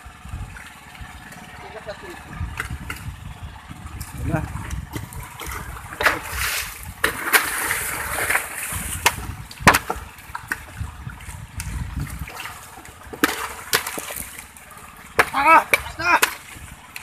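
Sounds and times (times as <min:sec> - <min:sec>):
water splashes and slaps: 0:00.0 - 0:17.0
fish thrashing in water: 0:02.2 - 0:17.0.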